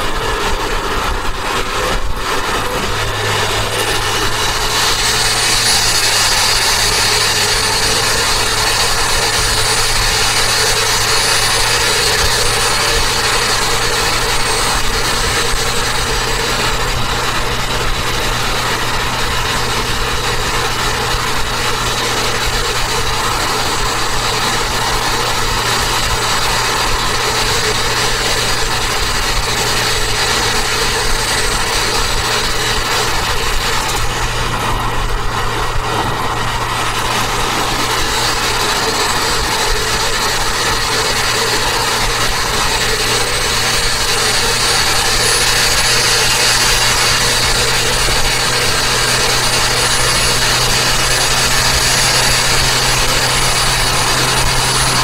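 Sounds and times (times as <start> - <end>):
car driving at highway speed: 0.0 - 55.0.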